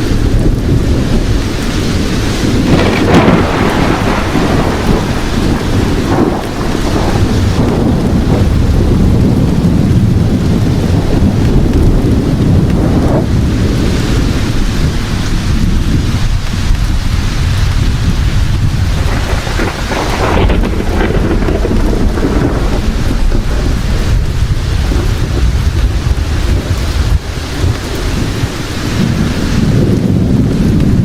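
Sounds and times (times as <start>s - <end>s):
heavy rain: 0.0s - 31.0s
low rumble of thunder: 0.0s - 31.0s.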